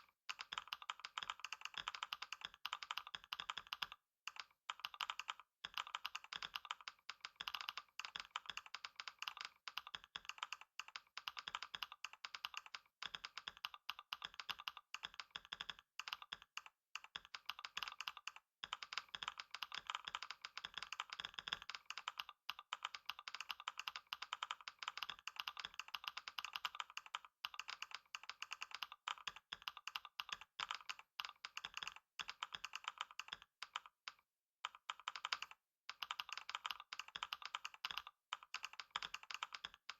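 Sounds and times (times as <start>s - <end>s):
rapid keyboard typing: 0.0s - 39.9s.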